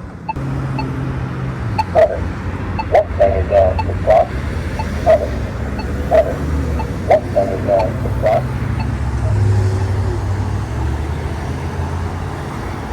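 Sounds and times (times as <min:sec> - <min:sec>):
road traffic: 0:00.0 - 0:12.9
vehicle passing: 0:00.3 - 0:12.9.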